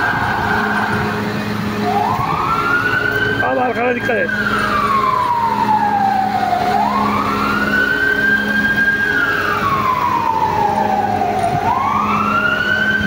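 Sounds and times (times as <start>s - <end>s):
low hum: 0.0s - 13.0s
siren wailing: 0.0s - 13.0s.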